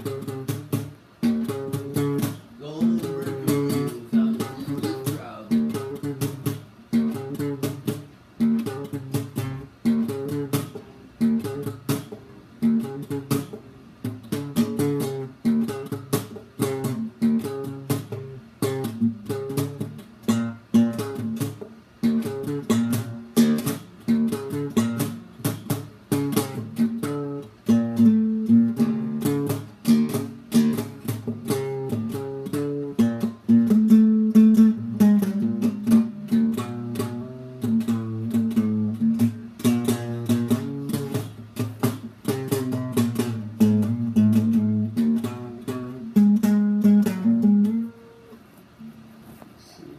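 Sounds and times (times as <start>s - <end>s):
guitar picking fast notes: 0.0s - 48.4s.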